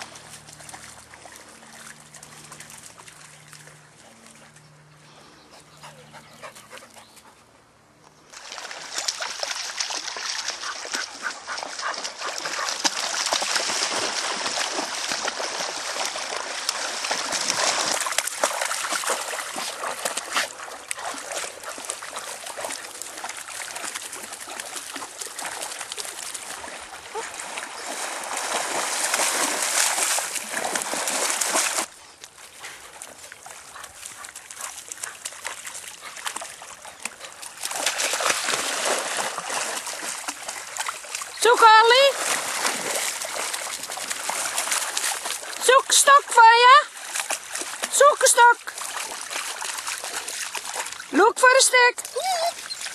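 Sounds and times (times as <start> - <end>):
dog splashing in water: 0.0 - 4.8, 8.3 - 52.9.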